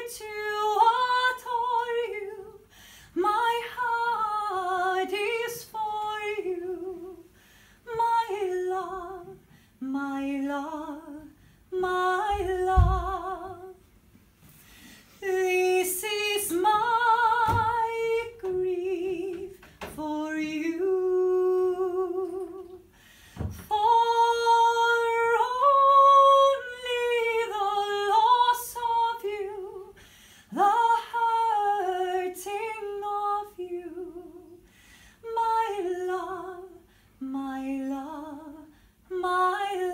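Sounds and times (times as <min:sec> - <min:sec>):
woman singing unaccompanied: 0:00.0 - 0:07.3, 0:07.9 - 0:13.8, 0:15.2 - 0:34.6, 0:35.2 - 0:39.9.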